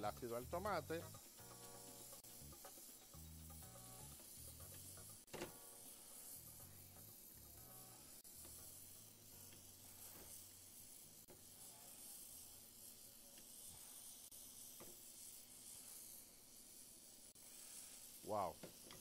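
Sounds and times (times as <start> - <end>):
sauce sizzling in a pan: 0.0 - 19.0.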